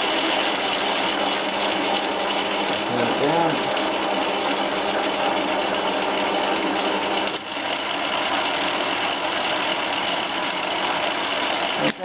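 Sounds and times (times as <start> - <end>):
lathe motor whining: 0.0 - 12.0.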